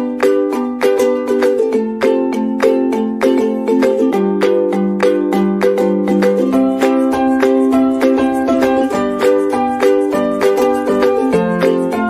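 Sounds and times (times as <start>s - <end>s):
ukulele-like strumming: 0.0s - 12.0s.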